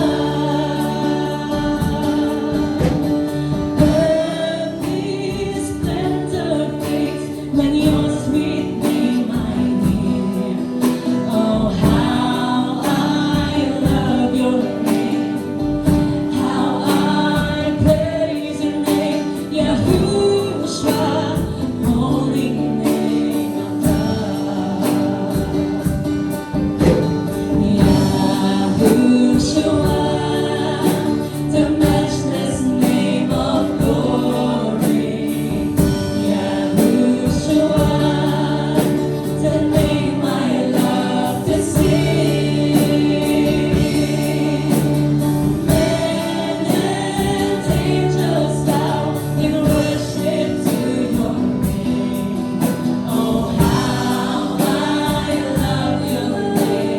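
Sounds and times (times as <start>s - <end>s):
group singing a worship song: 0.0s - 56.9s
instrumental accompaniment with beat: 8.8s - 56.9s.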